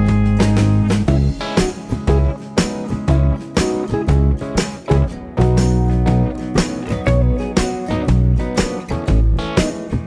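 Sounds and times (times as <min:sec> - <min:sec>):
steady beat with deep bass: 0:00.0 - 0:09.7
strummed guitar: 0:00.0 - 0:10.0.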